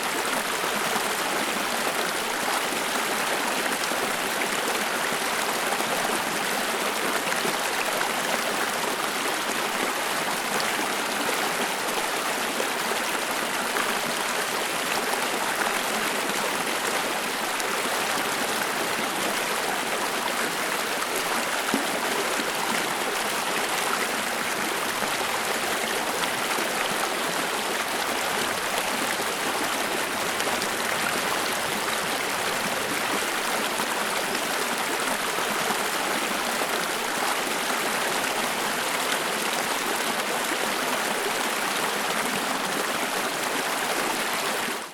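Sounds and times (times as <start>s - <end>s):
stream babbling over stones: 0.0s - 44.9s.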